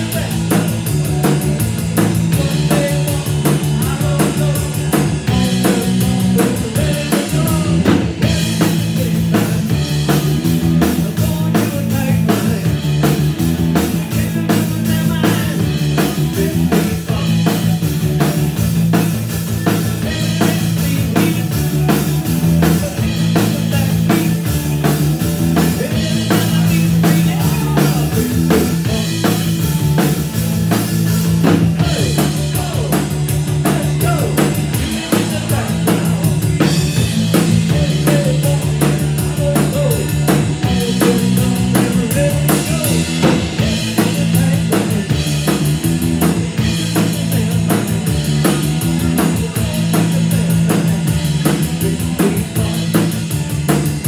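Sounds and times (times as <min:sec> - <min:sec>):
drum kit beat: 0:00.0 - 0:54.0
guitar: 0:00.0 - 0:54.0
rock band playing: 0:00.0 - 0:54.0.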